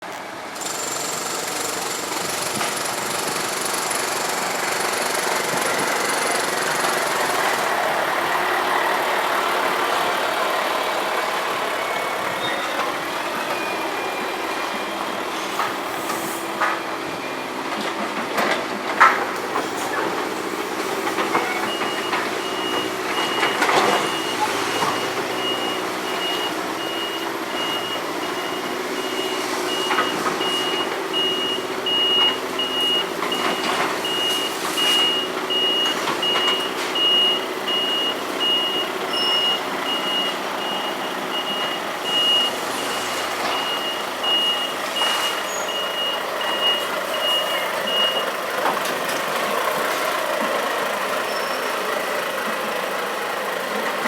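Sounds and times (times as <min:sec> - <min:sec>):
diesel truck engine running: 0:00.0 - 0:54.0
reversing alarm beeping: 0:00.6 - 0:17.8, 0:19.4 - 0:48.4.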